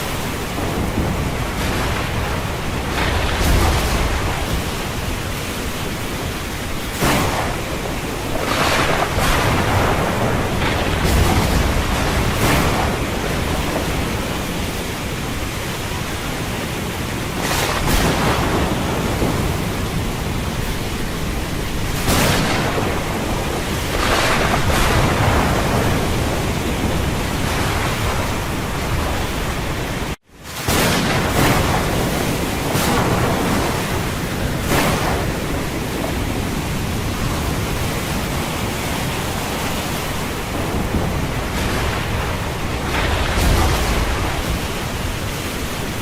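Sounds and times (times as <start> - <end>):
rushing wind: 0.0 - 46.0
waves crashing: 0.0 - 46.0.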